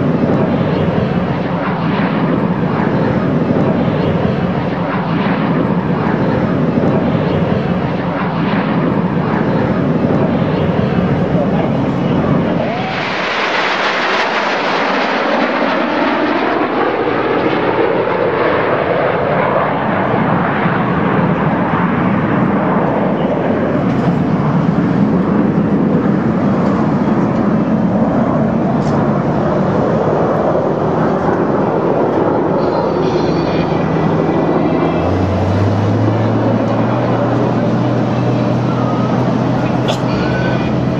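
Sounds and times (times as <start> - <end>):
jet aircraft roar: 0.0 - 40.9.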